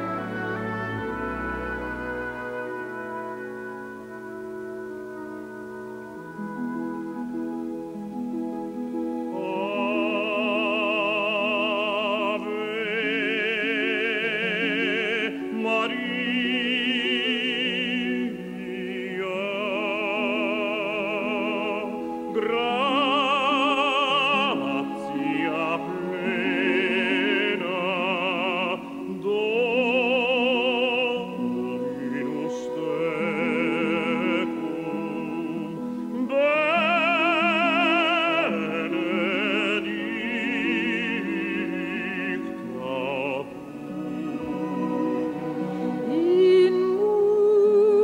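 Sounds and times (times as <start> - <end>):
musical accompaniment: 0.0 - 48.0
operatic voice singing with vibrato: 9.2 - 48.0.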